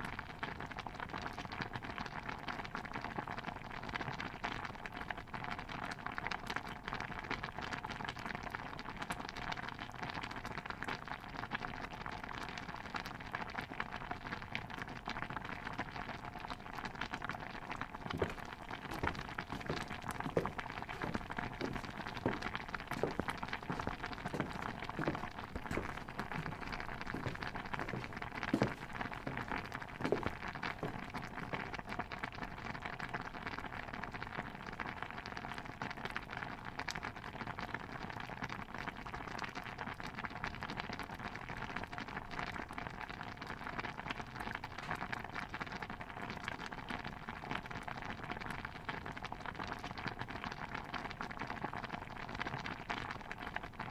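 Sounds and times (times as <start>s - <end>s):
stew bubbling in a pot: 0.0s - 53.9s.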